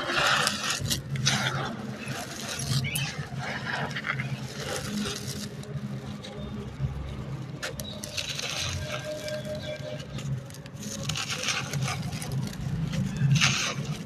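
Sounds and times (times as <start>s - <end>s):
gritty crunching and crackling: 0.0s - 14.0s.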